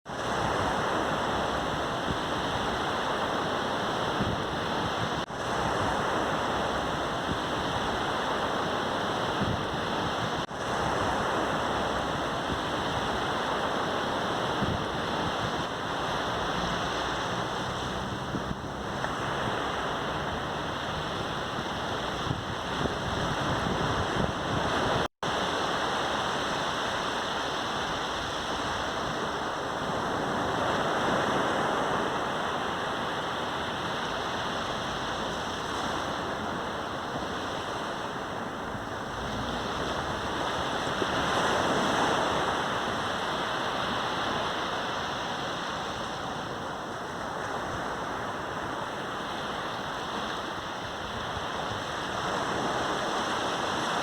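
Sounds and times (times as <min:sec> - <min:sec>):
sea surf washing onto beach: 0:00.1 - 0:54.0.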